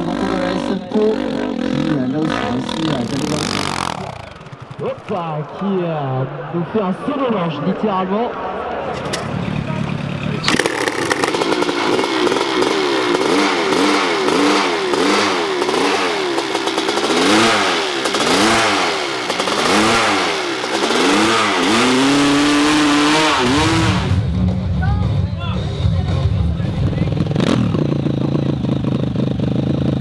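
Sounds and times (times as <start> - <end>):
dirt bike engine revving: 0.0 - 7.6, 8.5 - 30.0.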